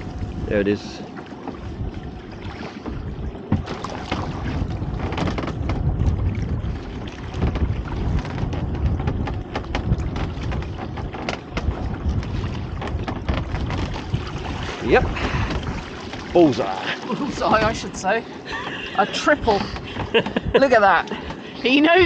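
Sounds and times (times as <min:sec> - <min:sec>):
knocks and splashes: 0:00.0 - 0:22.0
water slapping boat: 0:00.0 - 0:22.0
wind buffeting microphone: 0:00.0 - 0:22.0.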